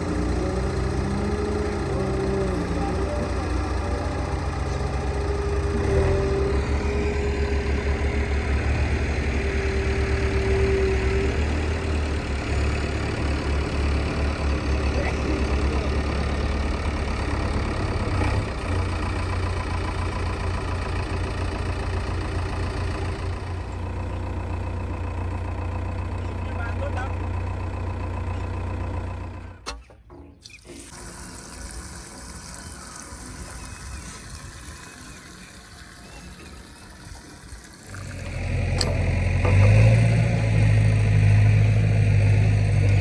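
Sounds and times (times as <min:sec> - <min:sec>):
diesel engine throbbing: 0:00.0 - 0:29.7, 0:36.0 - 0:43.0.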